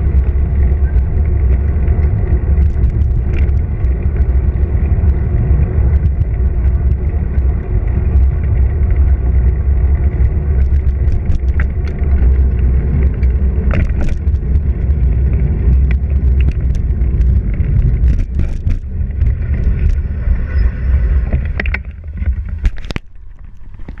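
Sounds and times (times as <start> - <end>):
bike clicks and rattles: 0.0 - 24.0
tyres rolling on asphalt: 0.0 - 24.0
wind buffeting microphone: 0.0 - 24.0.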